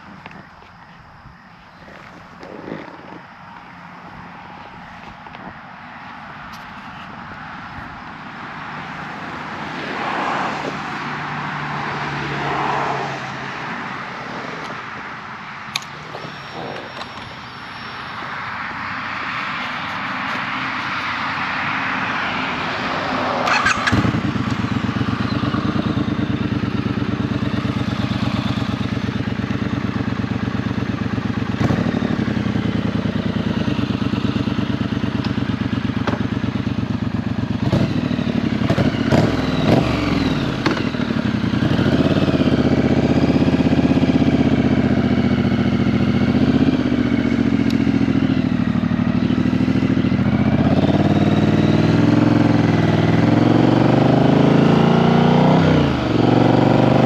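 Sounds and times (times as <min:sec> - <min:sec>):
motorcycle engine starting and idling: 0:00.0 - 0:05.6, 0:14.5 - 0:57.0
passing traffic: 0:00.0 - 0:57.0.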